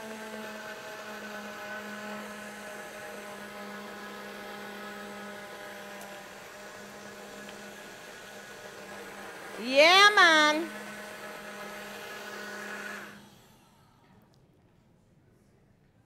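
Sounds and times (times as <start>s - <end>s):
blender motor running: 0.0s - 13.4s.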